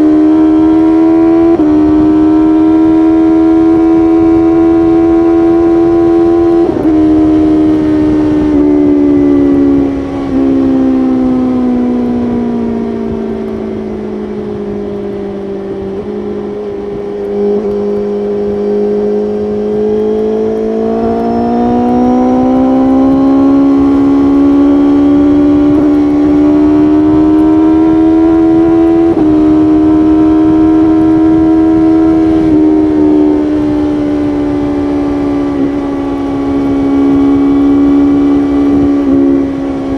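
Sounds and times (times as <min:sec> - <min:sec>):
motorcycle engine at speed: 0:00.0 - 0:39.9
road and wind noise: 0:00.0 - 0:39.9.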